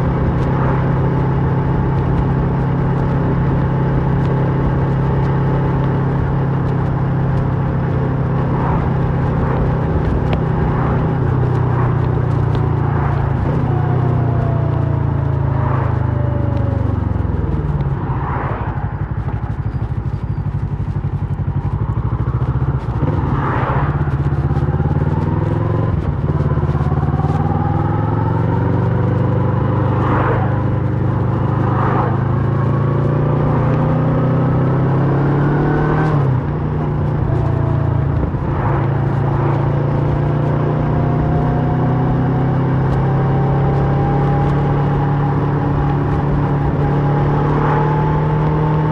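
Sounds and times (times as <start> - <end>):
motorcycle engine revving through gears: 0.0 - 48.9.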